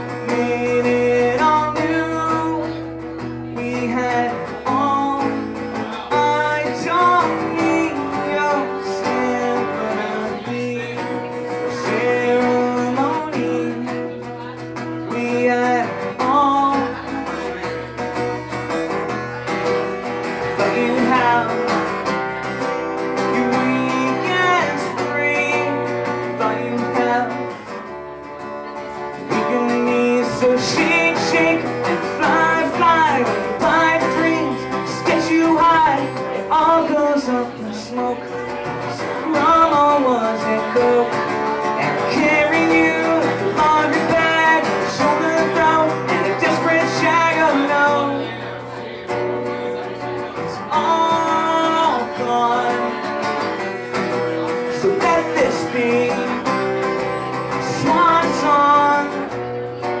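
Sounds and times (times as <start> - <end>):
acoustic guitar strumming: 0.0 - 60.0
man singing: 0.0 - 60.0.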